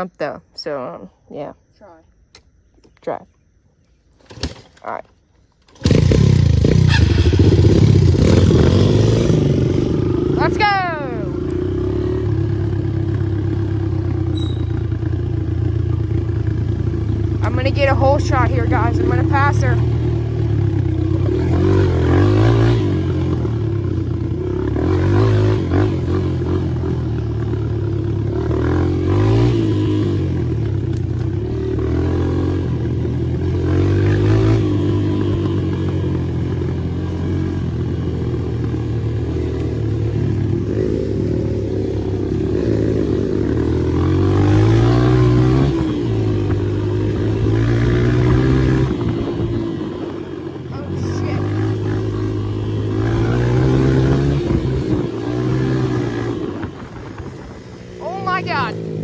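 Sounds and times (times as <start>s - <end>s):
dirt bike engine revving: 5.7s - 59.0s.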